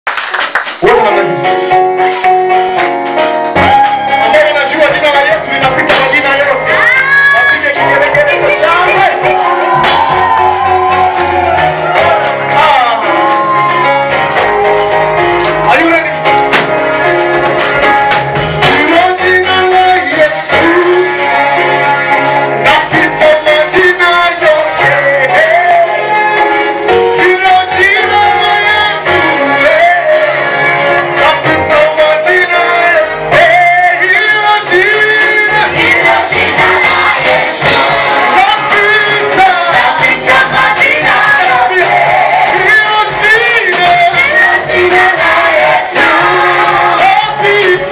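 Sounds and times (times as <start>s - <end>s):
worship singing with band: 5.4s - 47.9s.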